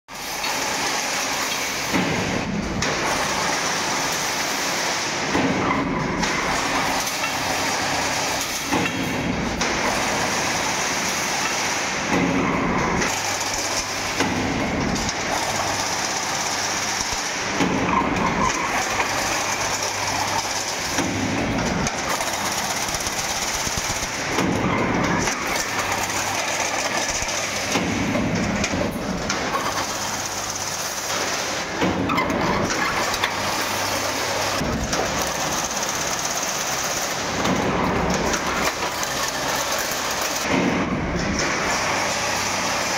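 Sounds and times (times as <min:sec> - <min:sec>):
fence weaving machine running: 0:00.1 - 0:42.9.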